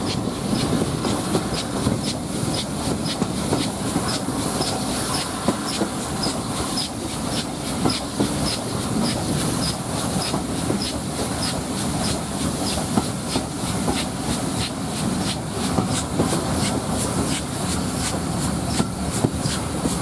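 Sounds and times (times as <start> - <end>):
train wheels rolling rhythmically: 0.0 - 20.0.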